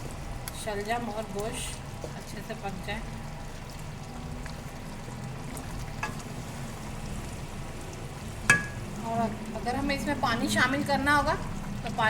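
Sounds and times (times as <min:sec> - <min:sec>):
curry sizzling in a pot: 0:00.0 - 0:12.0.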